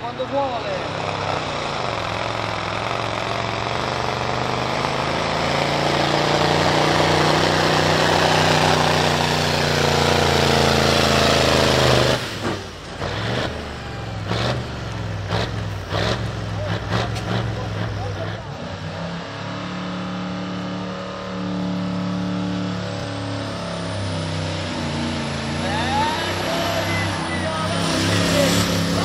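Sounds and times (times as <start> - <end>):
truck diesel engine under load: 0.0 - 29.0.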